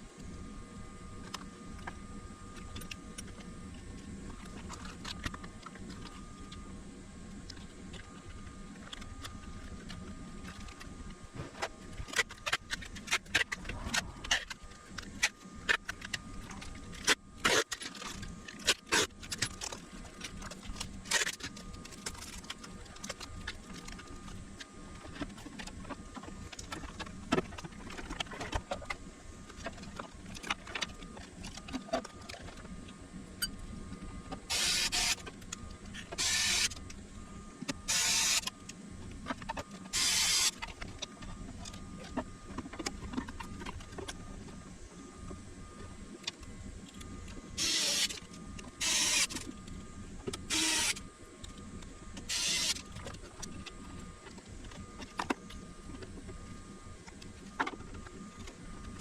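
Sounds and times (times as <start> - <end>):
steady low hum: 0.0 - 59.0
thin faint whine: 0.0 - 59.0.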